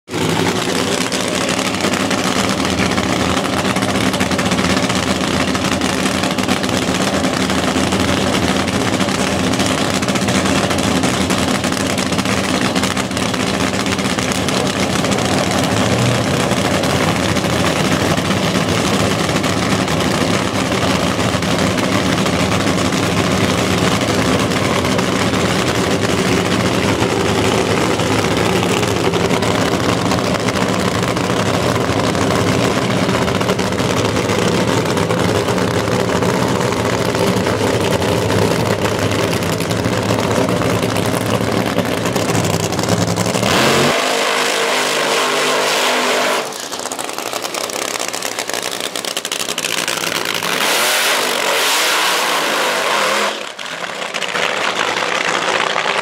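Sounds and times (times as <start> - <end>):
dragster engine idling loudly: 0.0 - 56.0.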